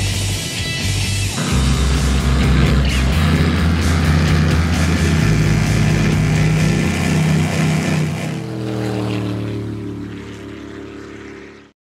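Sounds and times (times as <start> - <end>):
powerboat engines at high speed: 0.0 - 11.7.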